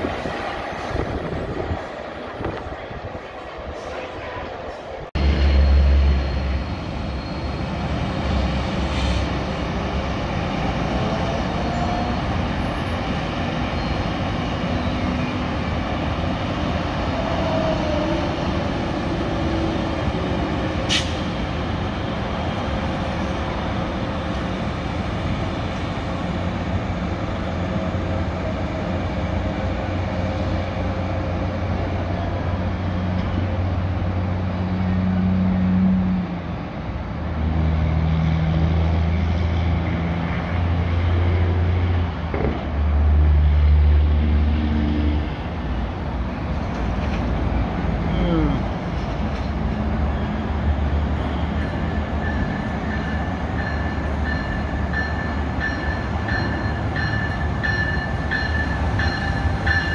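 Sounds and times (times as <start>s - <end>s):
train rumbling on tracks: 0.0s - 59.9s.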